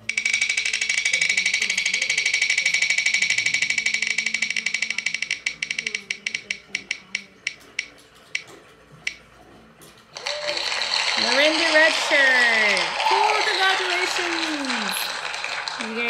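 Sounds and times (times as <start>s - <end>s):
spinning wheel ticking: 0.0s - 9.2s, 10.2s - 16.0s.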